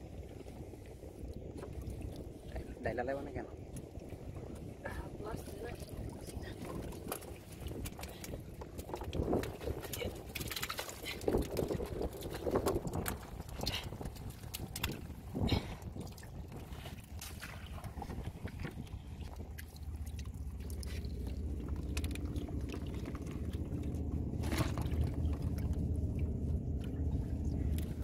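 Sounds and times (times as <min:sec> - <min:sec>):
steady low rumble: 0:00.0 - 0:28.0
prawns splashing in water: 0:04.8 - 0:28.0.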